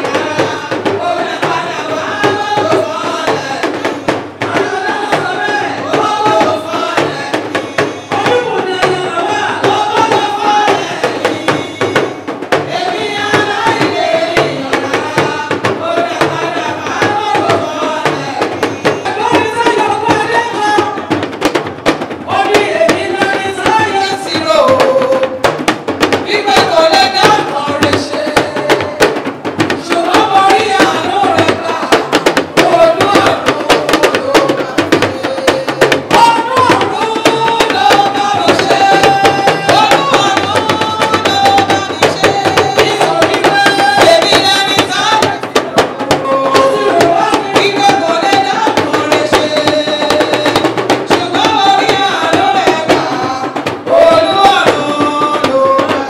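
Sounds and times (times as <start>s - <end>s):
woman singing through loudspeakers: 0.0s - 21.4s, 22.1s - 25.5s, 26.1s - 56.0s
talking drums beating: 0.0s - 56.0s.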